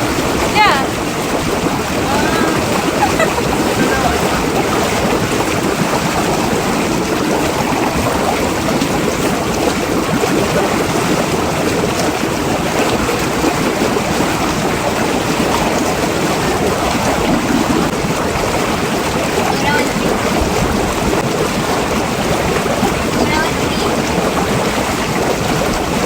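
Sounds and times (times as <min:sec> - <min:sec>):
churning water rushing: 0:00.0 - 0:26.0.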